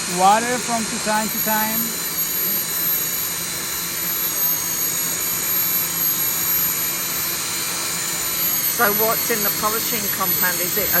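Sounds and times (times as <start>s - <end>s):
polishing machine whining: 0.0s - 11.0s.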